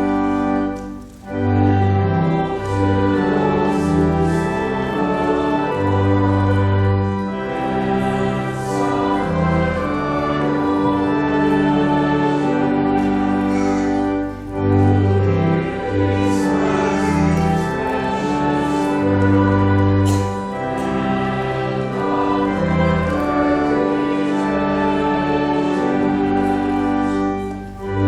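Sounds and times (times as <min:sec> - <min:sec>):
church organ: 0:00.0 - 0:28.0
congregation singing a hymn: 0:00.0 - 0:28.0.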